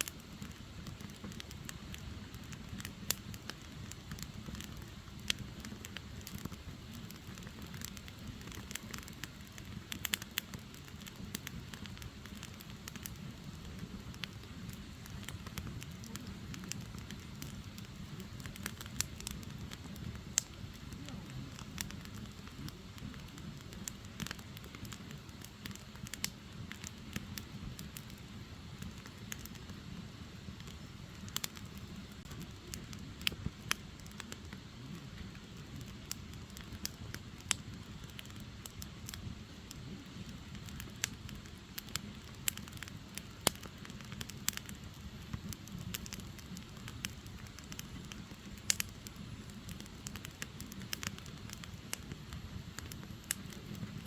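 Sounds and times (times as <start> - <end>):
logs crackling and popping: 0.0 - 54.0
low rush of flame: 0.0 - 54.0.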